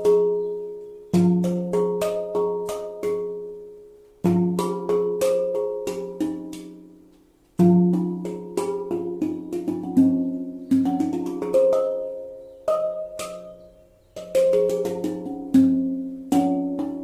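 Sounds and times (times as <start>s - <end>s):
handpan notes ringing: 0.0s - 17.0s.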